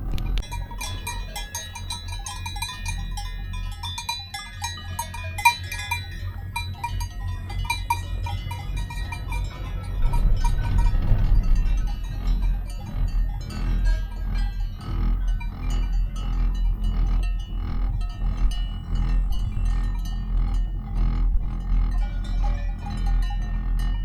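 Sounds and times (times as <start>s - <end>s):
low rumble: 0.0s - 4.0s, 5.8s - 24.0s
cowbells clanking: 0.0s - 24.0s.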